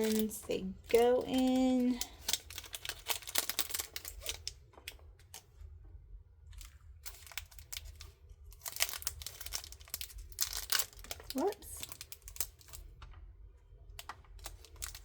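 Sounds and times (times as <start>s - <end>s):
plastic packaging crinkling and tearing: 0.0s - 5.5s, 6.5s - 13.1s, 14.0s - 15.0s.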